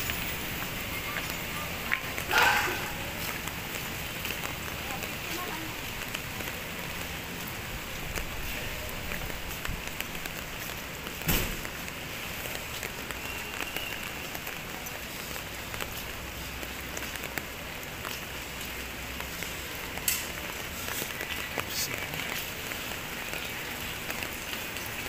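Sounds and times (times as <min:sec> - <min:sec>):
light rain hiss: 0:00.0 - 0:25.0.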